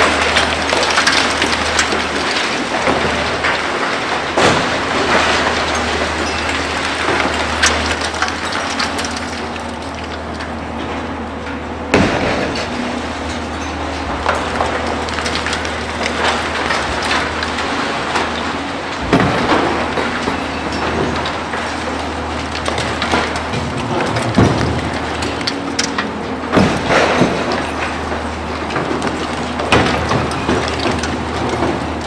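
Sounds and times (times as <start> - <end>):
concrete rubble clattering and crunching: 0.0 - 32.0
diesel machinery humming: 0.0 - 32.0.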